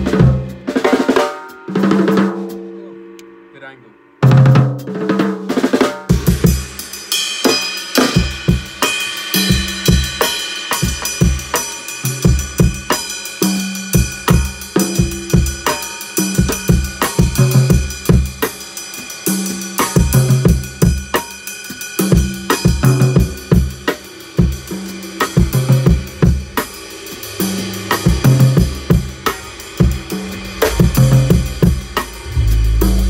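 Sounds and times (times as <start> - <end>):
acoustic drum kit groove: 0.0 - 33.0.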